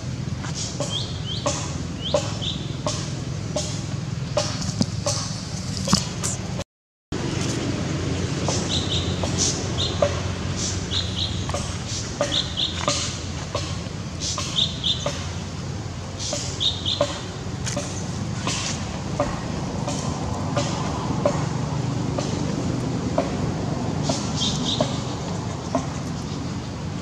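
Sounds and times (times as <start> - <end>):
low outdoor rumble: 0.0 - 6.6, 7.2 - 27.0.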